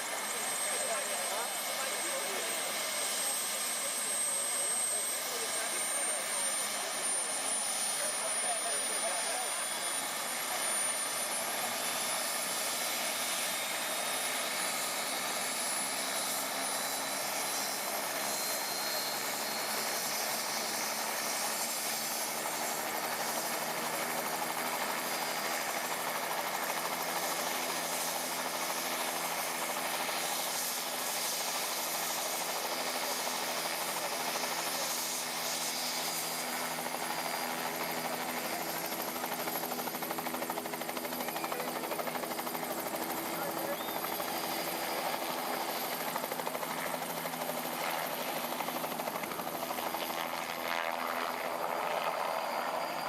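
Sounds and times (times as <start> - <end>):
helicopter engine and rotor: 0.0 - 53.0.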